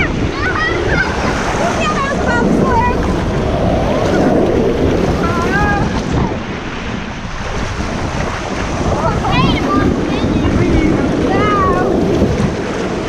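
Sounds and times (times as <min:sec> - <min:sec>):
rushing water: 0:00.0 - 0:13.0
wind buffeting microphone: 0:00.0 - 0:13.0.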